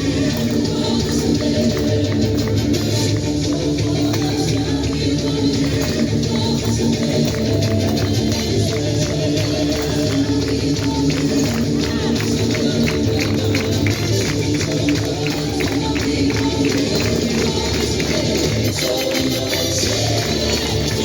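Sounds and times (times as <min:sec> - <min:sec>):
instrumental worship music: 0:00.0 - 0:21.0
tambourine jingling: 0:00.0 - 0:21.0.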